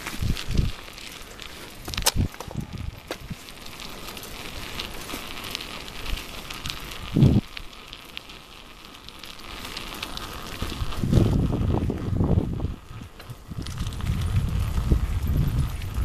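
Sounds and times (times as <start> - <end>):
grit crunching on gravel road: 0.0 - 16.0.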